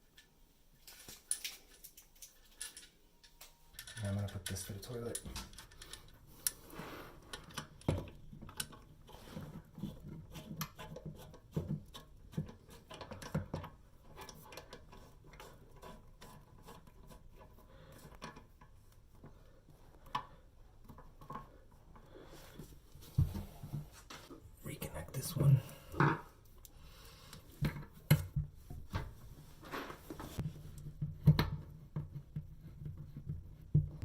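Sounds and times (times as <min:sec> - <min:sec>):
hands handling plumbing fittings: 0:00.1 - 0:06.6, 0:07.2 - 0:24.4, 0:27.3 - 0:34.0.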